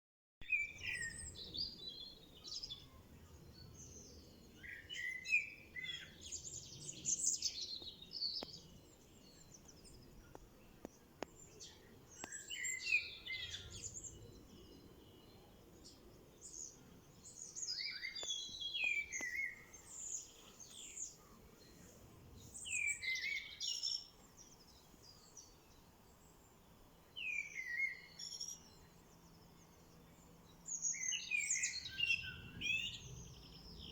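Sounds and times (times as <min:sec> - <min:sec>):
songbirds singing: 0:00.4 - 0:33.9
faint steady hiss: 0:00.7 - 0:33.9.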